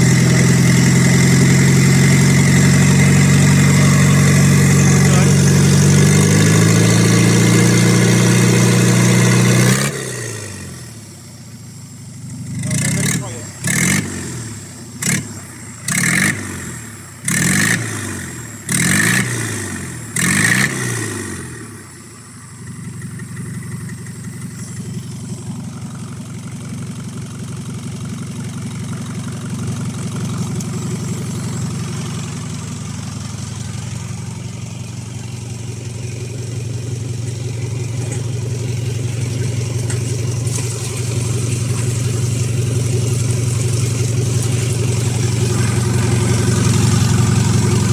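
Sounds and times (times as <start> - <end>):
diesel engine idling: 0.0 - 47.9
diesel engine revving: 0.0 - 47.9.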